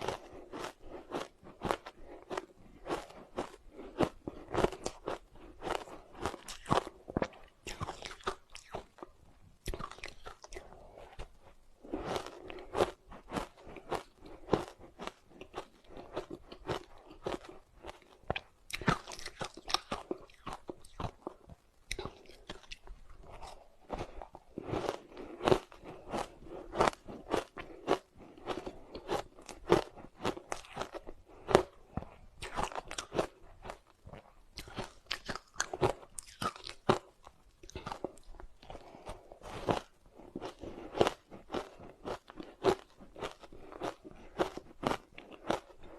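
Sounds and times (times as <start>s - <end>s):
person chewing soft ice: 0.0s - 45.9s.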